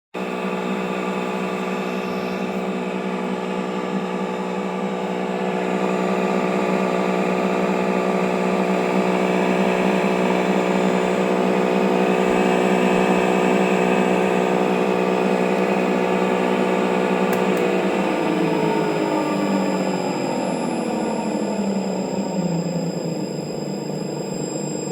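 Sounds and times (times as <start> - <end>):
electric motor humming: 0.3 - 24.9.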